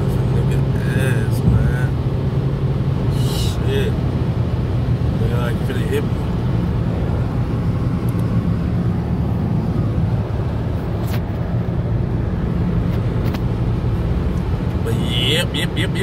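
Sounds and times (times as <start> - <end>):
car cabin road rumble: 0.0 - 16.0.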